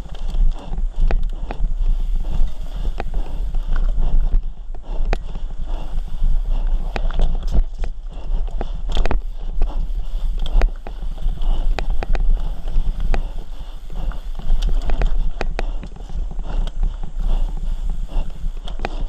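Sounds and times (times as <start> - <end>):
low rumble: 0.0 - 19.0
mountain bike clattering on dirt trail: 0.0 - 19.0.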